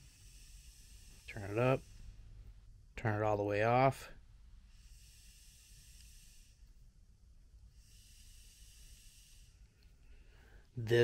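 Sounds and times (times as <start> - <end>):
person breathing close to microphone: 0.0 - 2.7, 4.0 - 6.9, 7.7 - 11.0.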